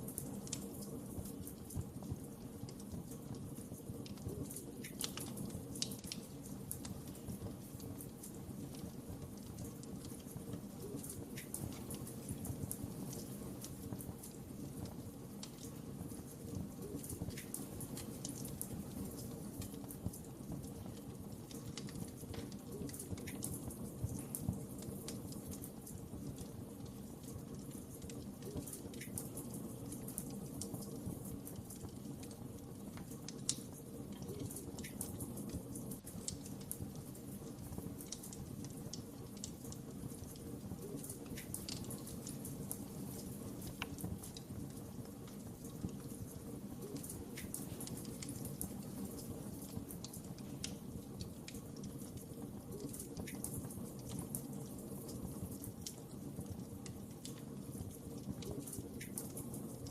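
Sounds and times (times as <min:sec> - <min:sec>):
fire crackling and popping: 0:00.0 - 0:59.9
low rumble of burning: 0:00.0 - 0:59.9.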